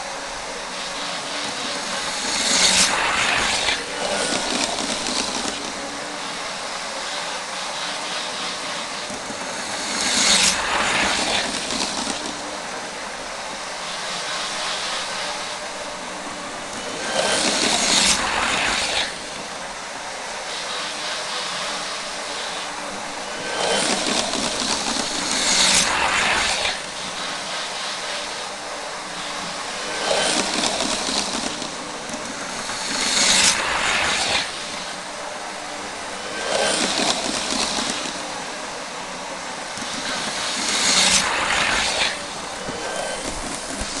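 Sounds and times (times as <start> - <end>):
model train motor whirr: 0.0 - 44.0
model train wheels rattling: 0.7 - 19.6, 20.7 - 35.0, 36.2 - 38.5, 39.6 - 44.0.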